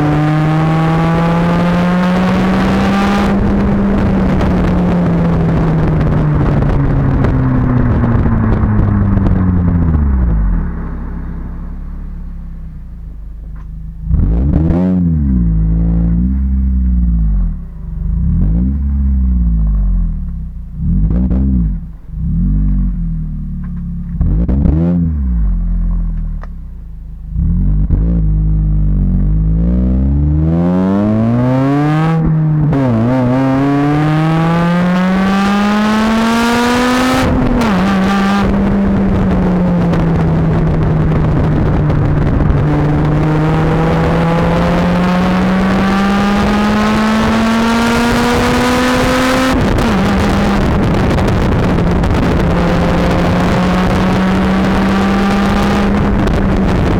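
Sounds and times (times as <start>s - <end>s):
car engine revving and accelerating: 0.0s - 56.9s.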